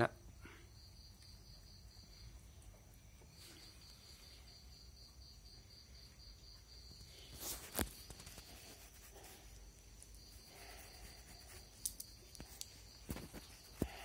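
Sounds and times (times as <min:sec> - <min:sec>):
cats eating: 0:00.2 - 0:14.0.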